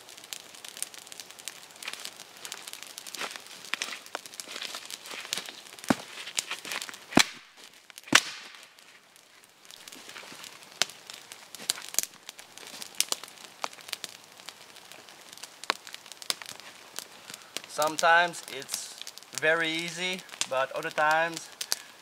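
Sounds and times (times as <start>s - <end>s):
small fire crackling and popping: 0.0s - 22.0s.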